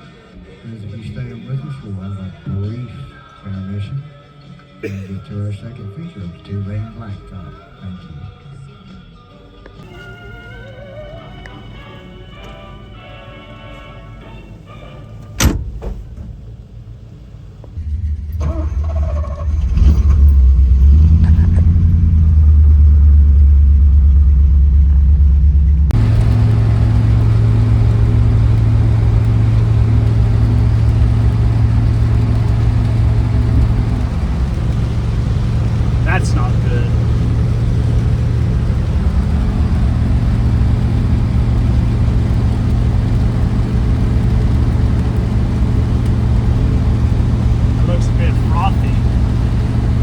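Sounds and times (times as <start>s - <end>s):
car engine droning: 9.8s - 50.0s.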